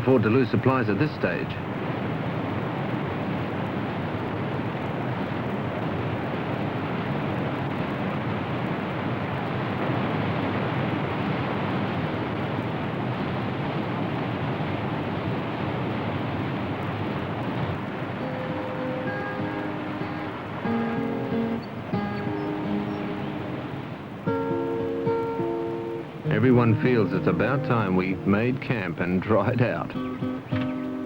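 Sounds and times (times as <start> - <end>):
whitewater rushing: 0.0 - 31.0.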